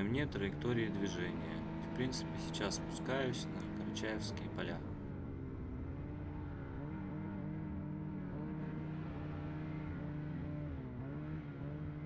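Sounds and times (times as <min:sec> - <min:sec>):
snowmobile engine running: 0:00.0 - 0:11.8.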